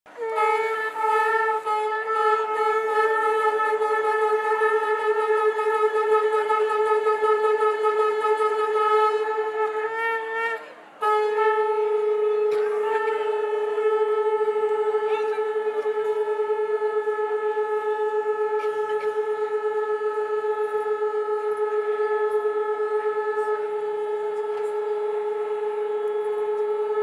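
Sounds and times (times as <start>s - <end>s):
conch shell blowing: 0.1s - 27.0s.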